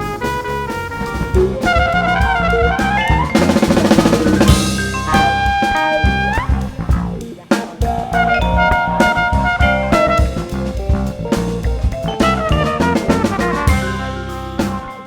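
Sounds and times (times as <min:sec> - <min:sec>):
drum kit: 0:00.0 - 0:15.0
live jazz band playing: 0:00.0 - 0:15.0.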